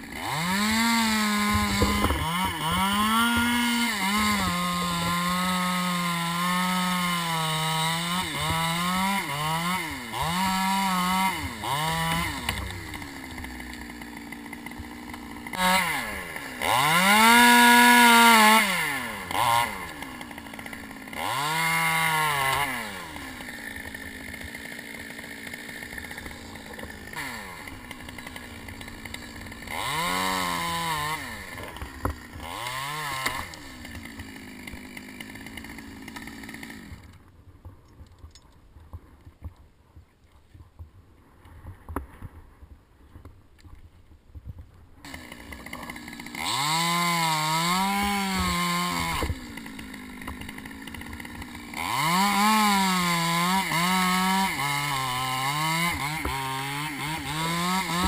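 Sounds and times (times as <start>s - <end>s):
chainsaw revving and idling: 0.0s - 37.4s, 45.0s - 58.0s.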